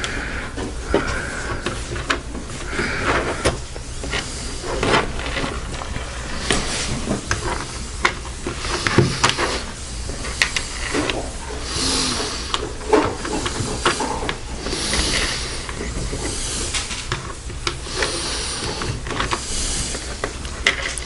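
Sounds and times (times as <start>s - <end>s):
rustling hiss: 0.0s - 21.0s.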